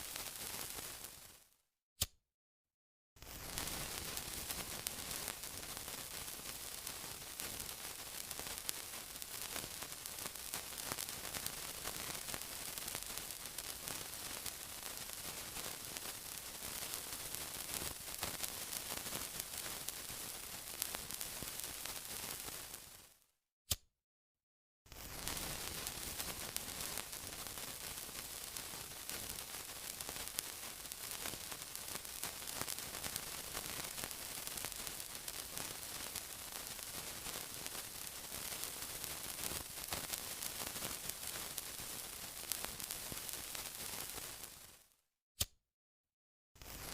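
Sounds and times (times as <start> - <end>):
sizzling with fine crackling pops: 0.0 - 2.1, 3.2 - 23.8, 24.9 - 45.6, 46.6 - 46.9.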